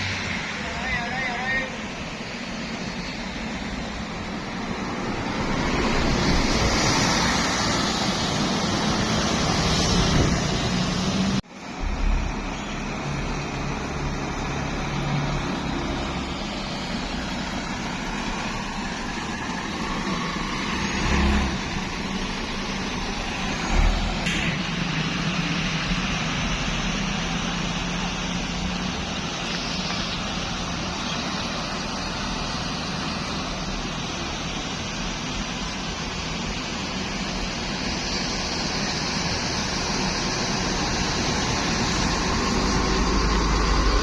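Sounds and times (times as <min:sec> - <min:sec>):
heavy road traffic passing: 0:00.0 - 0:44.0.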